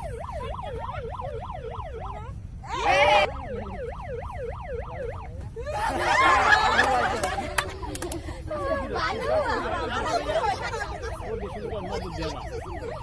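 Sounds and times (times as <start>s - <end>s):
voices: 0.0s - 13.0s
yelp siren: 0.0s - 13.0s.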